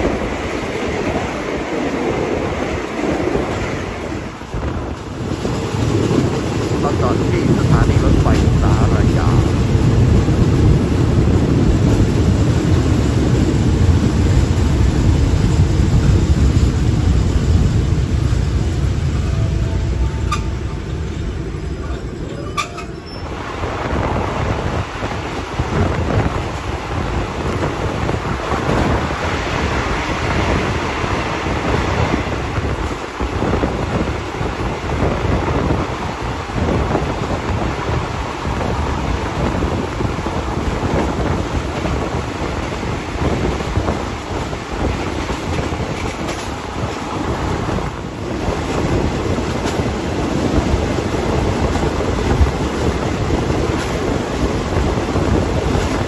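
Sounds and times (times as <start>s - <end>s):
wind on microphone: 0.0s - 19.2s, 23.0s - 56.0s
train wheels rolling on rails: 0.0s - 56.0s.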